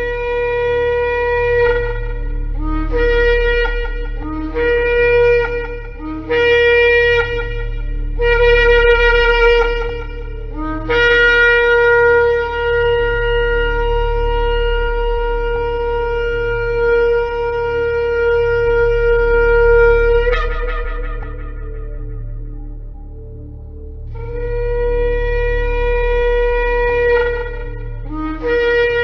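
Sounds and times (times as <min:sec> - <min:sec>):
low steady hum: 0:00.0 - 0:29.0
shofar blasts: 0:00.0 - 0:29.0.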